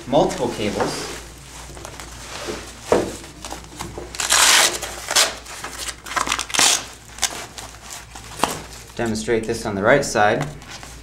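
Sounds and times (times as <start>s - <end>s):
nylon fabric rustles and clicks: 0.1s - 9.2s.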